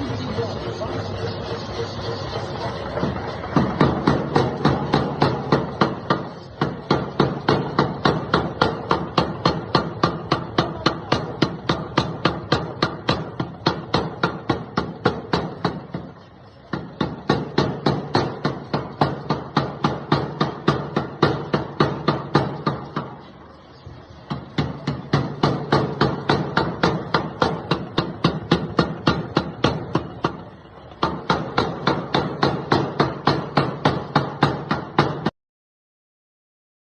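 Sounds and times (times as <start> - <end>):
power hammer striking: 2.4 - 23.2, 24.3 - 35.3.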